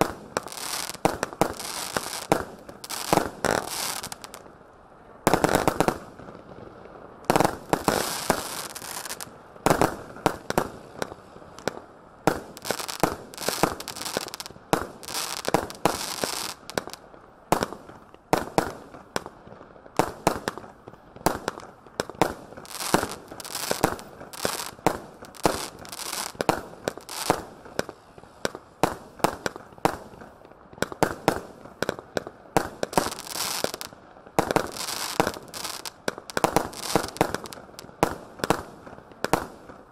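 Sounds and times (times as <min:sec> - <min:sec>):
crackling hiss of firework stars: 0:00.0 - 0:39.9.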